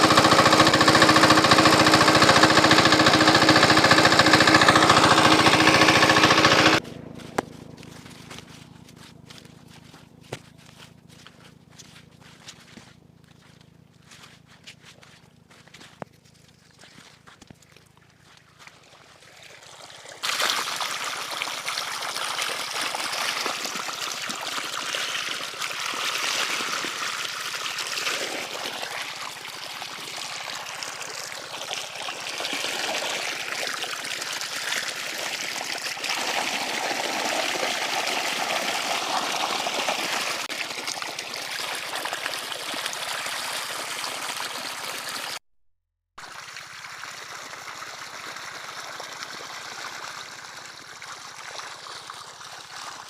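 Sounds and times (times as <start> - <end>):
water gushing from pump outlet: 0.0 - 16.0, 16.7 - 45.4, 46.2 - 53.0.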